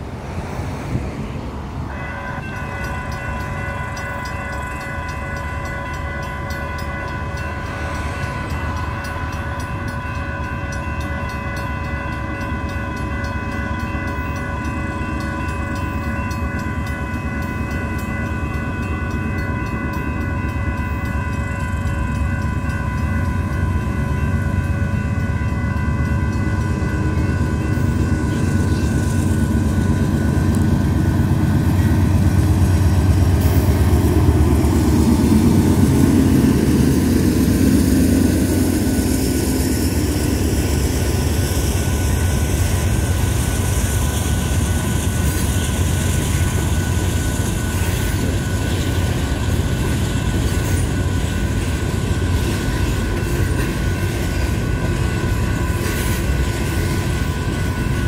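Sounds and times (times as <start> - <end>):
diesel locomotive passing: 0.0 - 58.0
crossing bells ringing: 1.4 - 58.0.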